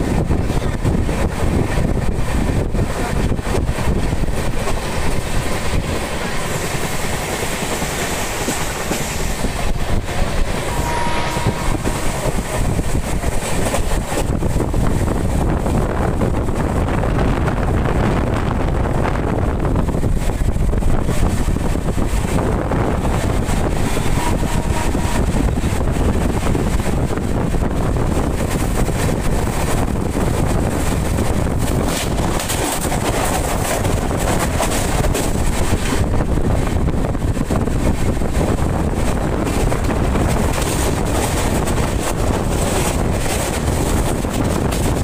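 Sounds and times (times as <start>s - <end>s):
train running rumble: 0.0s - 45.0s
wind buffeting microphone: 0.0s - 45.0s.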